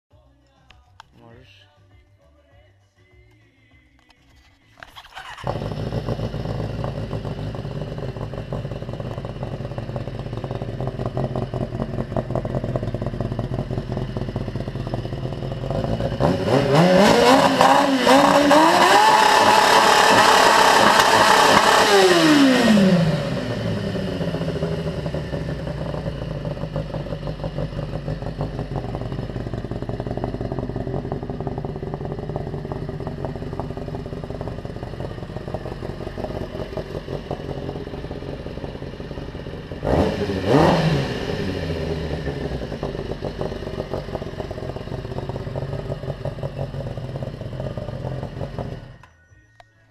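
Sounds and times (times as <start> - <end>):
motorcycle engine revving: 4.9 - 49.1.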